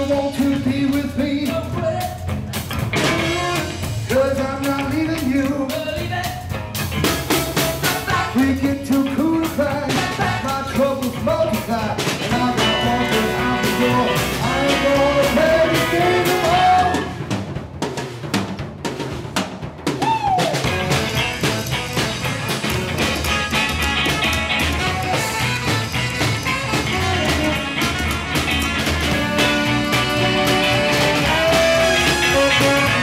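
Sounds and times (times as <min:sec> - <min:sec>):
drum kit: 0:00.0 - 0:33.0
live band playing: 0:00.0 - 0:33.0.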